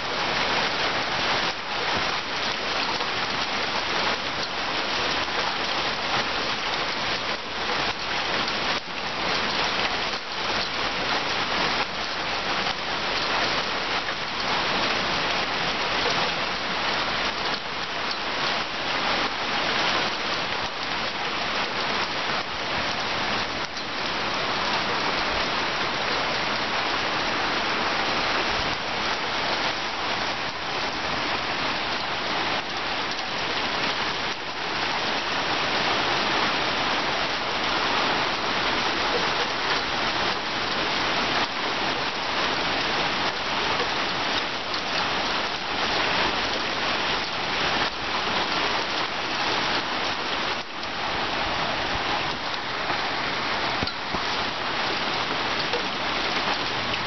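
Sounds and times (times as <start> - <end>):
rain on roofs and paving: 0.0 - 57.0.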